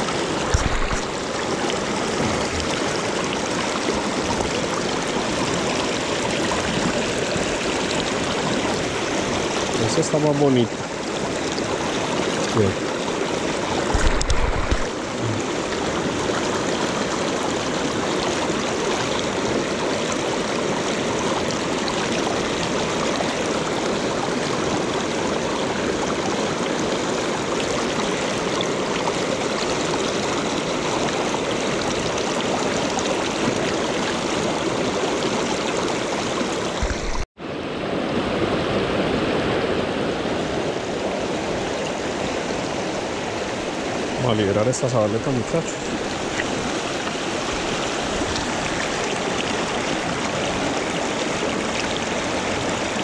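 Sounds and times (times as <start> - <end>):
river rushing over stones: 0.0 - 53.0.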